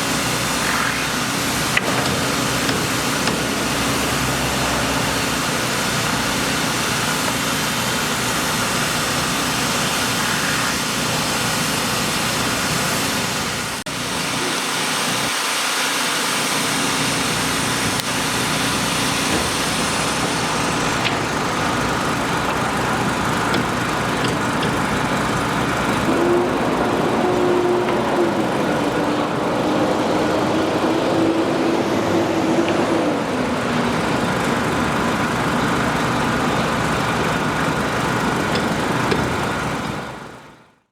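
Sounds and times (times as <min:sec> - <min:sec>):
engine running: 0:00.0 - 0:40.9
road traffic: 0:00.0 - 0:40.9.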